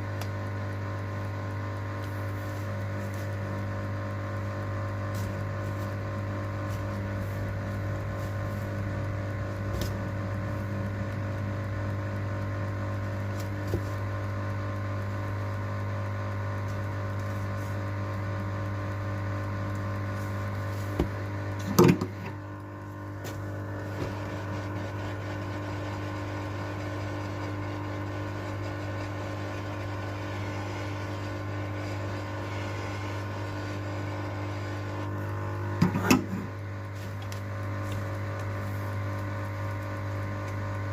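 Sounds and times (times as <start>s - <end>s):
electrical hum: 0.0s - 40.9s.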